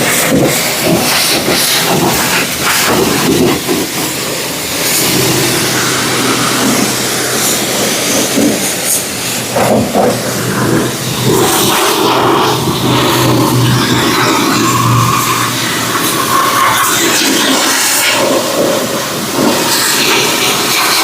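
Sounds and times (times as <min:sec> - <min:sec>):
high-pressure water spray on car: 0:00.0 - 0:21.0.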